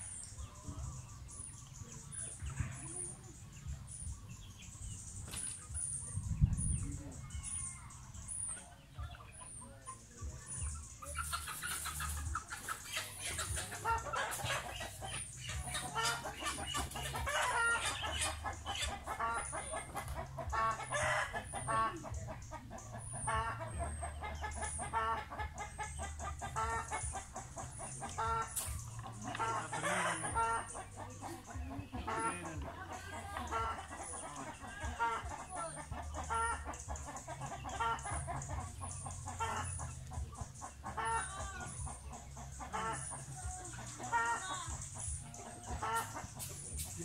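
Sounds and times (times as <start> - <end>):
chickens clucking: 0.0 - 47.0.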